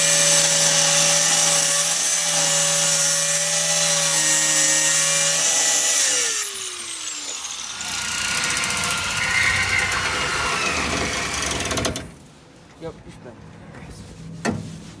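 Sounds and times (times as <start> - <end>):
power tool cutting or grinding: 0.0 - 12.2
power tool whining: 0.0 - 12.2.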